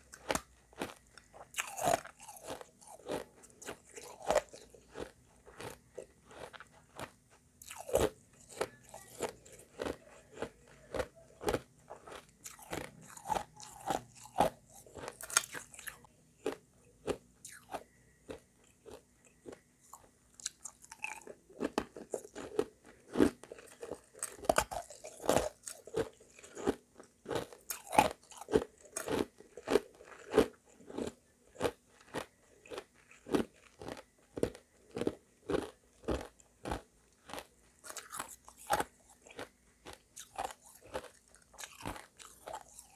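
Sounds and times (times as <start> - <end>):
chewing crunchy ice: 0.0 - 42.9.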